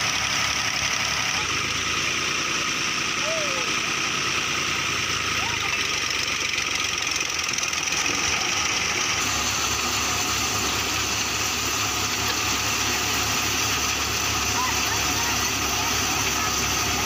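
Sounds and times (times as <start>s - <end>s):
wheat thresher machine noise: 0.0s - 17.0s.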